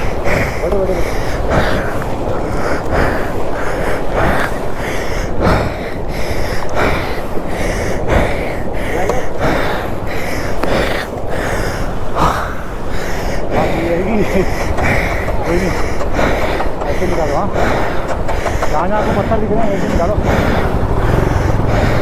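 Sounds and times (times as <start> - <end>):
motor noise: 0.0 - 22.0
person breathing heavily: 0.0 - 22.0
wind rumble: 0.0 - 22.0.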